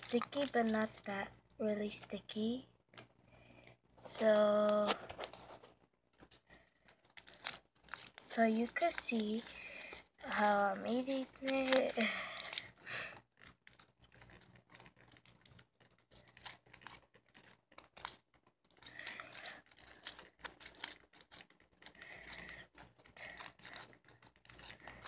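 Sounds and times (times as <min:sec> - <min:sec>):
slime crinkling and crackling: 0:00.0 - 0:02.2, 0:04.1 - 0:25.0.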